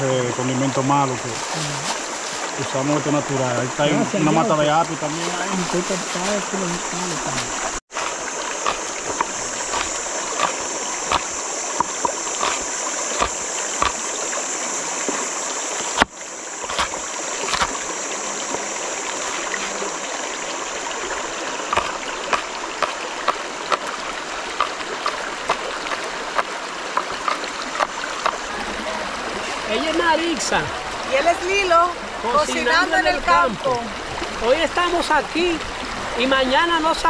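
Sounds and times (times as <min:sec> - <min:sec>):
river water running: 0:00.0 - 0:37.0.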